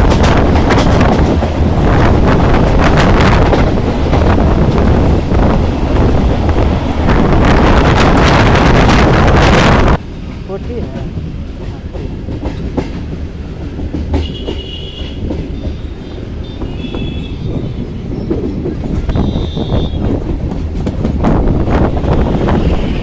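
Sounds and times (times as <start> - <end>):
wheels clacking over rail joints: 0.0 - 7.4, 10.2 - 23.0
train rumbling: 0.0 - 23.0.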